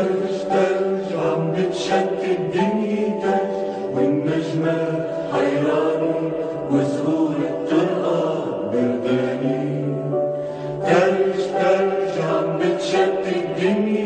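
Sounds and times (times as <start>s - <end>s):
background music with held notes: 0.0s - 14.0s.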